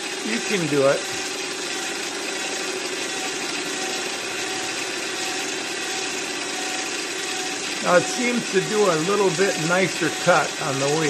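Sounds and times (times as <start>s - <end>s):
cordless drill whirring: 0.0s - 11.0s
lathe fly cutter cutting metal: 0.0s - 11.0s.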